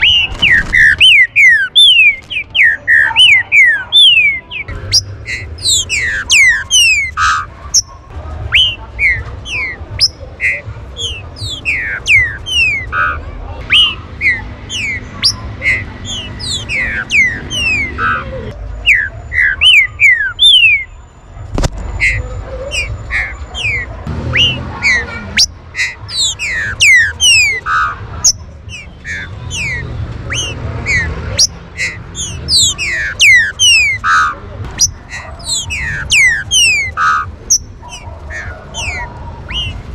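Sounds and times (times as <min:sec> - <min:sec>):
birds whistling falling notes: 0:00.0 - 0:21.0, 0:21.7 - 0:39.9.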